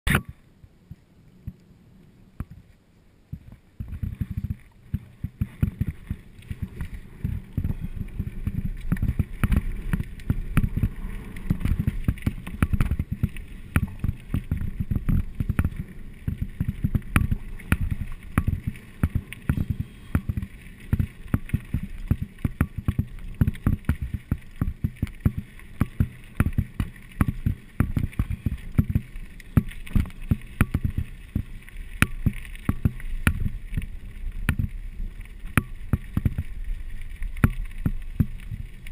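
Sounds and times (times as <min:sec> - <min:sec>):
bike knocking and rattling: 0:03.3 - 0:38.9
tyres rumbling over rocks: 0:03.3 - 0:38.9.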